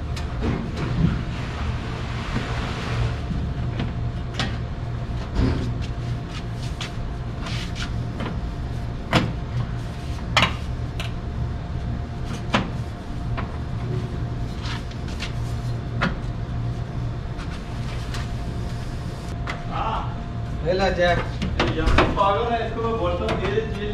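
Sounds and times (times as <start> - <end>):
low machine hum: 0.0 - 23.9.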